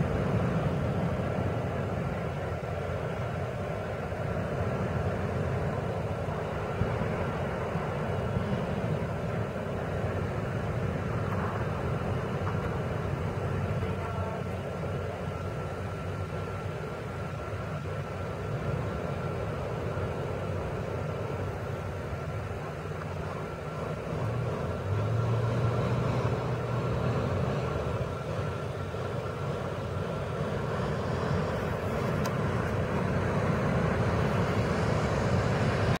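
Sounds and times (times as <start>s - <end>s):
low motor drone: 0.0s - 36.0s
outdoor noise hiss: 0.0s - 36.0s.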